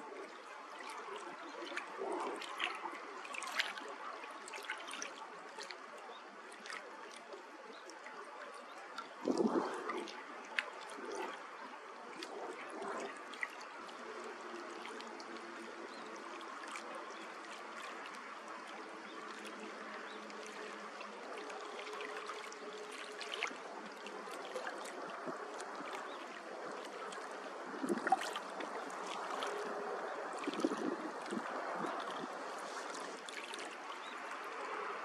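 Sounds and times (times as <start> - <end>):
little splashes: 0.0 - 35.0
small waves lapping against rocks: 0.0 - 35.0.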